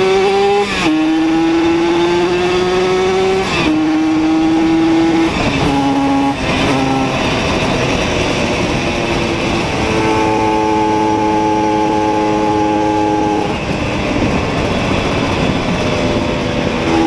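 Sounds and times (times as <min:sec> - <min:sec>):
moped engine accelerating: 0:00.0 - 0:17.0.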